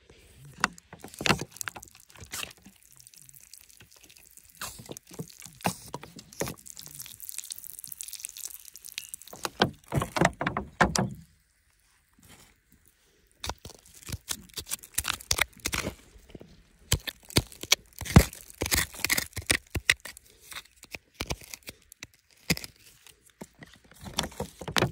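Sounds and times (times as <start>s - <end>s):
scraping wet gravelly soil: 0.0s - 9.6s, 11.8s - 24.9s.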